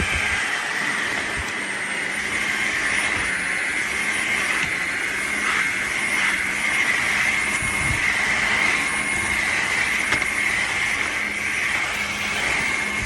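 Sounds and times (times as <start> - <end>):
vacuum mop whining: 0.0 - 13.0.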